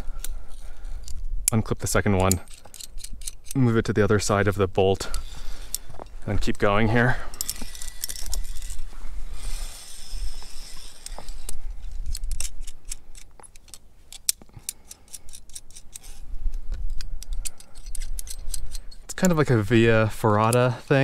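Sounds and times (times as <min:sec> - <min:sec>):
carabiners clinking on cable: 0:00.0 - 0:03.9, 0:05.0 - 0:19.7.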